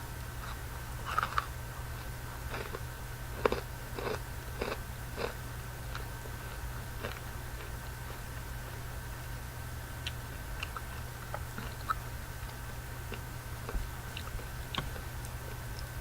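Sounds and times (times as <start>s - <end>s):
low background hum: 0.0s - 16.0s
chewing candy: 0.4s - 8.5s, 10.0s - 16.0s.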